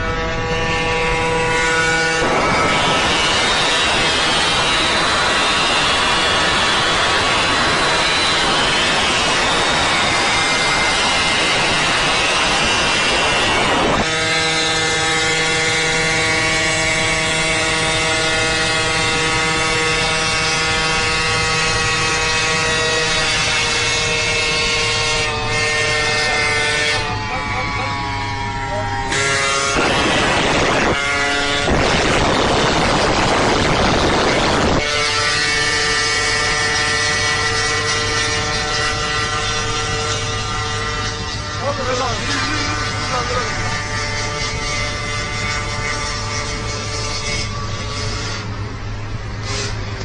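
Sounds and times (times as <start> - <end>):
car engine drone: 0.0 - 50.0
wind and road noise: 0.0 - 50.0.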